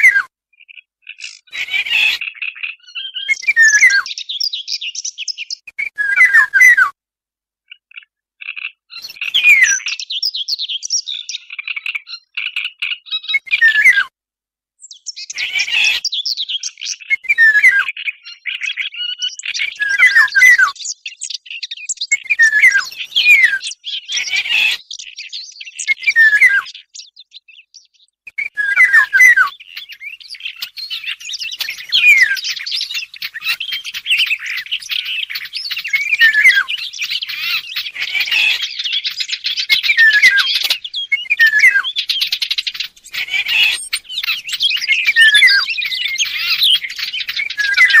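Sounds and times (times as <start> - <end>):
chattering warbler song: 0.0 - 7.0, 7.6 - 14.1, 14.8 - 48.0
whistled bird song phrases: 0.0 - 7.0, 7.7 - 14.2, 14.8 - 48.0.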